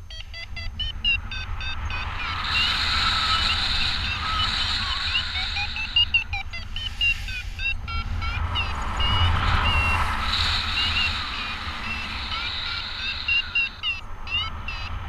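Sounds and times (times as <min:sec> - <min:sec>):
variometer beeping: 0:00.0 - 0:15.0
wind noise on microphone: 0:00.8 - 0:13.0.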